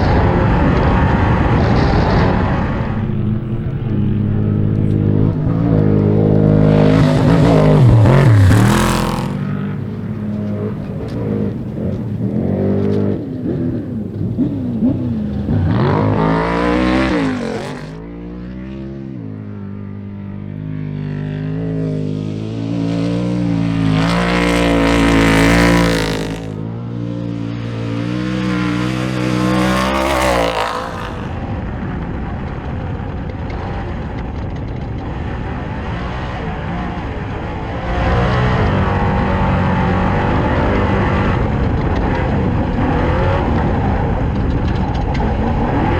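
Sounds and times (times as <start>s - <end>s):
race car engine at full throttle: 0.0s - 45.9s.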